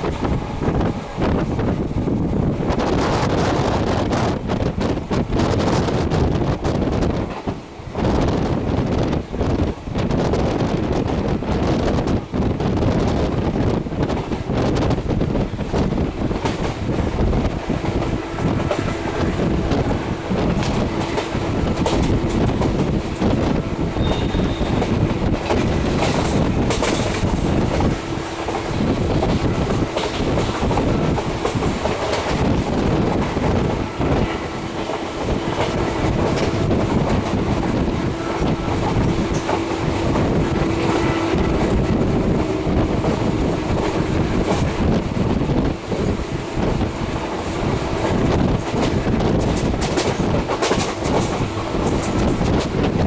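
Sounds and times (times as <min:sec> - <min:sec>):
train rumble and hum: 0:00.0 - 0:53.0
train wheels clattering on rails: 0:00.0 - 0:53.0.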